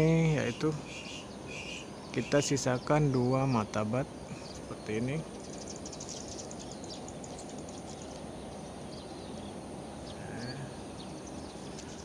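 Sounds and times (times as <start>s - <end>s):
insects chirping: 0.0s - 12.0s
outdoor background hiss: 0.0s - 12.0s.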